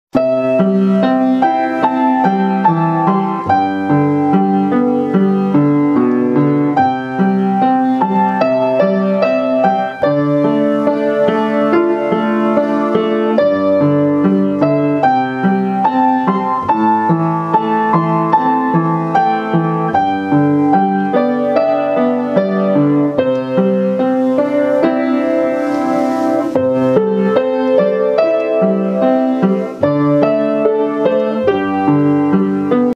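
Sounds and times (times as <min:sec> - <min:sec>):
piano music: 0:00.1 - 0:32.9.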